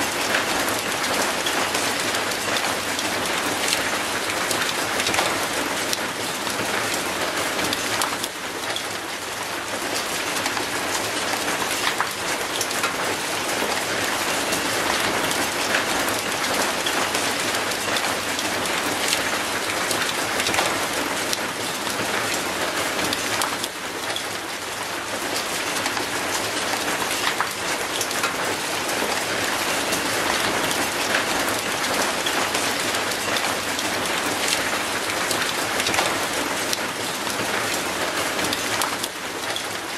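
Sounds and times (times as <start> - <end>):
rain on concrete and metal gate: 0.0 - 39.9.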